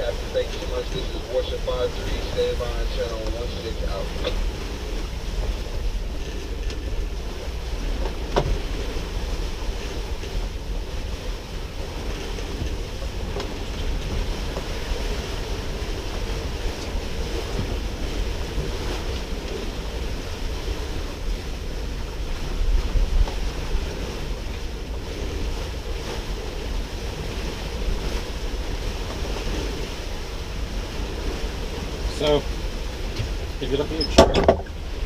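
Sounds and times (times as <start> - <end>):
water rushing past boat hull: 0.0 - 35.0
wind buffeting microphone: 0.0 - 35.0.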